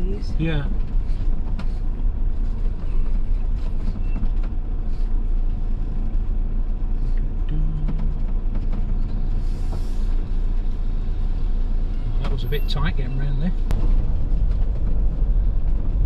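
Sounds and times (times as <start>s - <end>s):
motorhome engine rumble: 0.0s - 16.0s
road noise: 0.0s - 16.0s.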